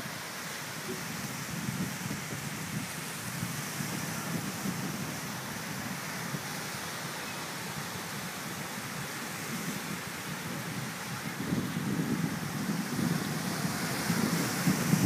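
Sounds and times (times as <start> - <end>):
surf washing: 0.0 - 15.0
wind on microphone: 0.0 - 15.0.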